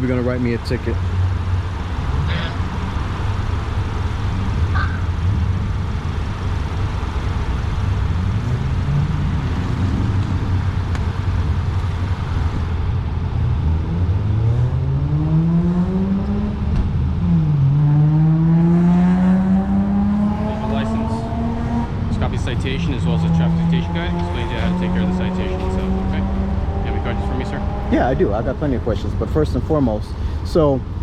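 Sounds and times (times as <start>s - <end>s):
low engine rumble: 0.0s - 18.4s, 19.5s - 31.0s
car accelerating: 0.0s - 31.0s.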